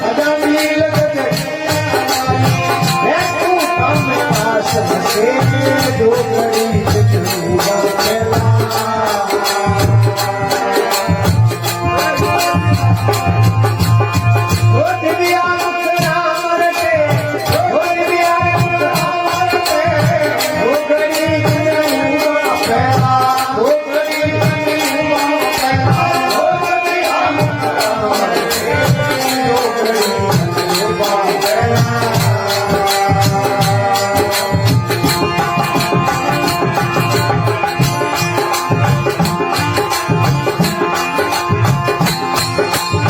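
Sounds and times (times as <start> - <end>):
hand drum beat: 0.0 - 43.0
rattling percussion: 0.0 - 43.0.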